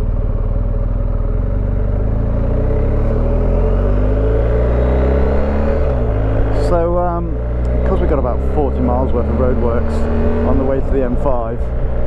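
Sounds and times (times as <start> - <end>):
motorcycle engine accelerating: 0.0 - 12.0
wind and road noise: 0.0 - 12.0.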